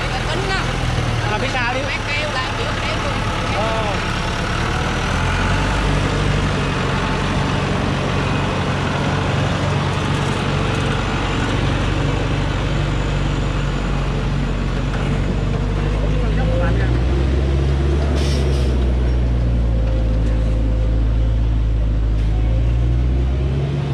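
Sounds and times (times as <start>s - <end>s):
diesel truck engine under load: 0.0s - 23.9s.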